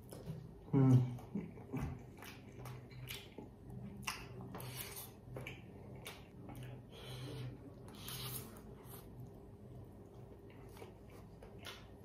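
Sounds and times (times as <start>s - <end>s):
faint chewing of noodles: 0.0s - 12.0s.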